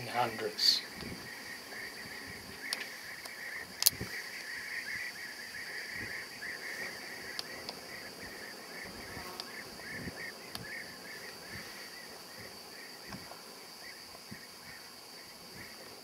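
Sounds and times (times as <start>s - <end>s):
bee-eaters chirping: 0.0s - 16.0s
steady high hiss: 0.0s - 16.0s
wind rumble on microphone: 0.0s - 16.0s.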